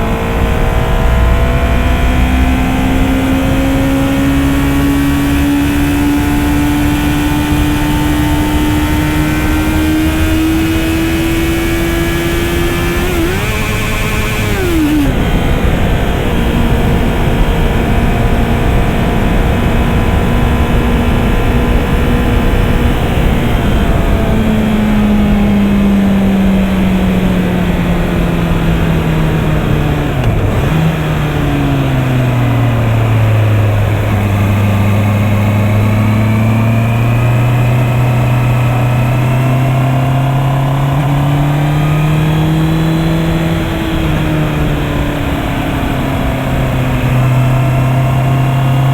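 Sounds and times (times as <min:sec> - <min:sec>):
motorcycle engine running: 0:00.0 - 0:48.9
wind rush over microphone: 0:00.0 - 0:48.9.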